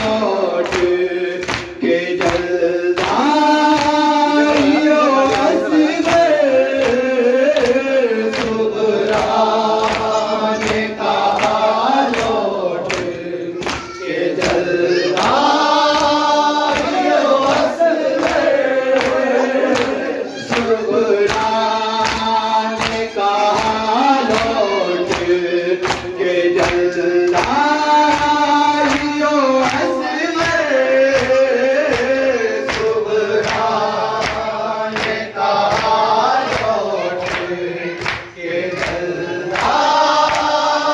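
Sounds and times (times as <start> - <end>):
lead reciter on microphone: 0.0 - 34.8
men chanting in unison: 0.0 - 40.9
rhythmic chest slaps: 0.0 - 40.9.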